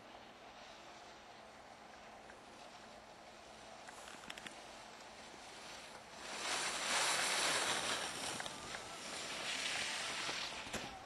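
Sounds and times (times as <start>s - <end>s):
skis carving across snow: 0.0s - 11.0s.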